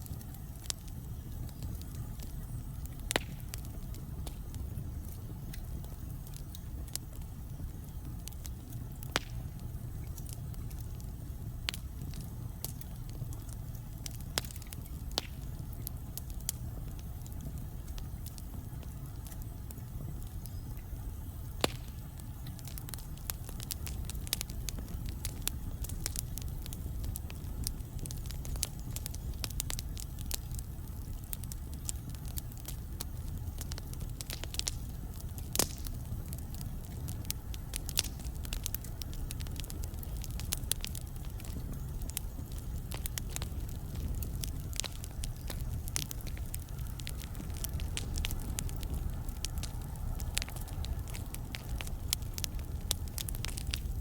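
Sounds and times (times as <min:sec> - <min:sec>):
fire crackles and pops: 0:00.0 - 0:54.0
flame rumble: 0:00.0 - 0:54.0.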